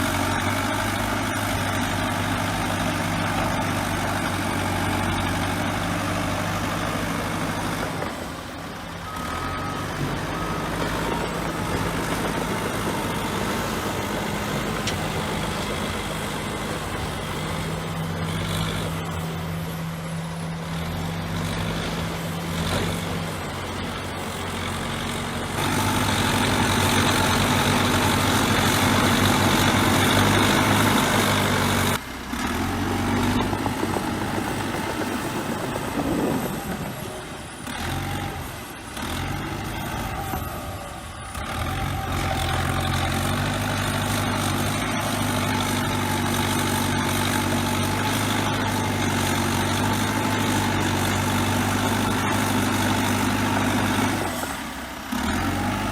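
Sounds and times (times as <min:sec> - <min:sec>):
bulldozer diesel engine: 0:00.0 - 0:55.9.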